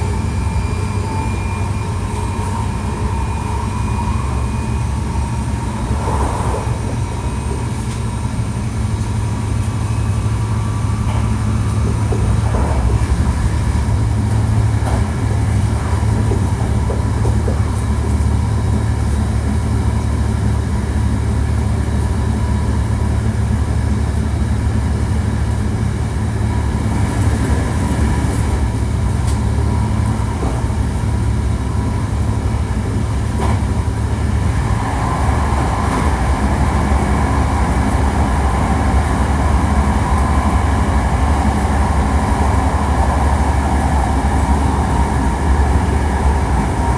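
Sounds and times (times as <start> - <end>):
train wheels rumbling: 0.0 - 46.9.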